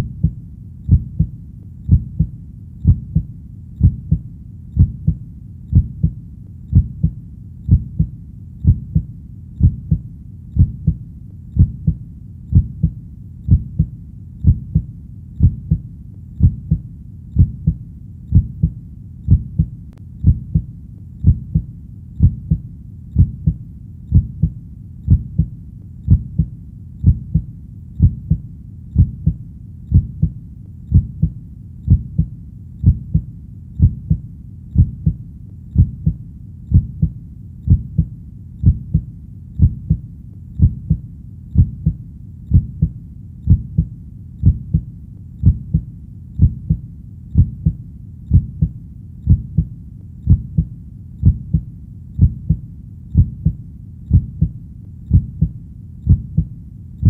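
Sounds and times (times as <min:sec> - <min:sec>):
faint steady background: 0:00.0 - 0:57.0
heartbeat lub-dub: 0:00.0 - 0:57.0.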